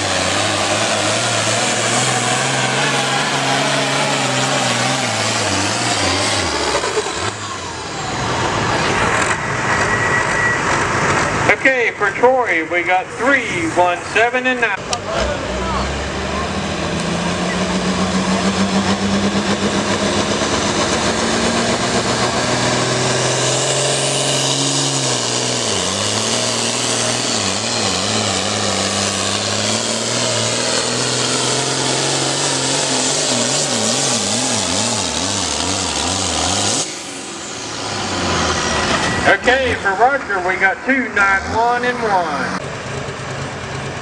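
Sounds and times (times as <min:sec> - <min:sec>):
tractor engine at full throttle: 0:00.0 - 0:44.0.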